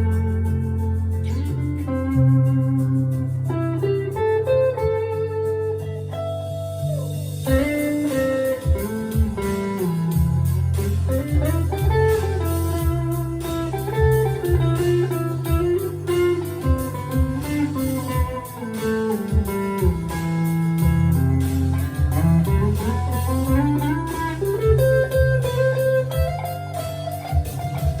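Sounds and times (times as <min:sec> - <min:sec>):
electric guitar melody: 0:00.0 - 0:28.0.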